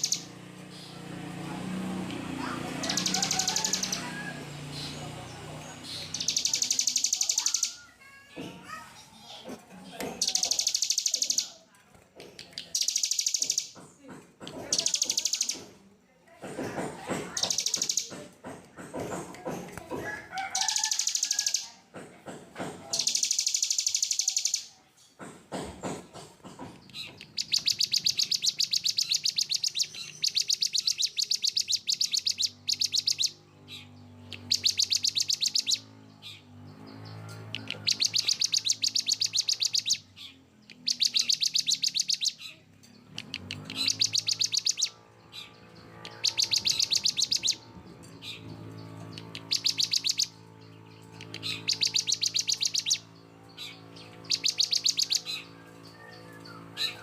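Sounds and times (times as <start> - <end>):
songbird rapid trills: 0.0 - 7.9, 10.2 - 11.7, 12.5 - 13.8, 14.6 - 15.7, 17.3 - 18.1, 20.1 - 21.8, 22.9 - 24.8, 26.8 - 42.6, 43.2 - 57.0.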